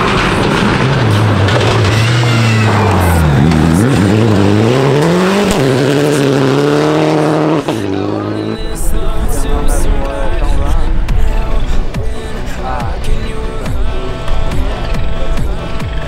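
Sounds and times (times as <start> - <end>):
rally car engine at full power: 0.0 - 16.0.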